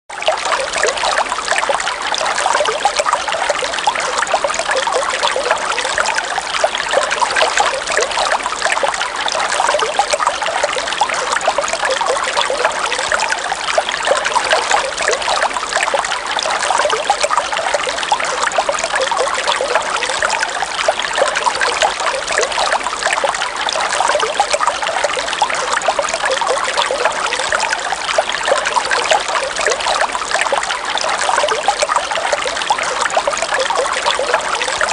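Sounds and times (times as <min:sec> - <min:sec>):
river water trickling: 0:00.1 - 0:34.9.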